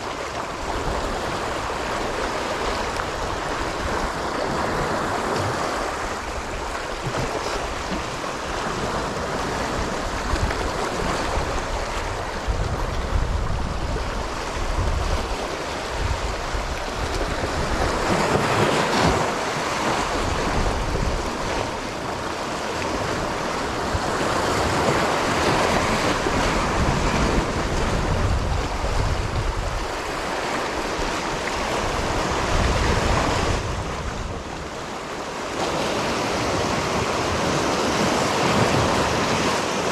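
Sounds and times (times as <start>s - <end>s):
wind buffeting microphone: 0.0s - 34.8s
waves washing against rocks: 0.0s - 39.9s.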